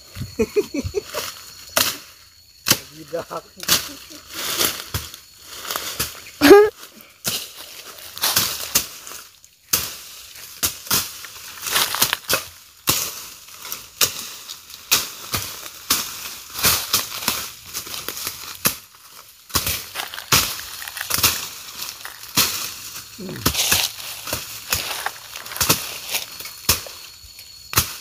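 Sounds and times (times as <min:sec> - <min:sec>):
dry brush and leaves crunching: 0:03.0 - 0:28.0.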